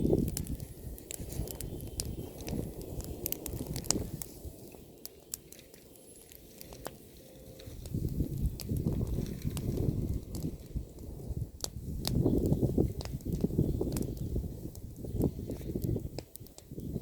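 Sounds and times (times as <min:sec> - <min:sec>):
bonfire crackling and popping: 0:00.0 - 0:17.0
low fire rumble: 0:00.0 - 0:17.0.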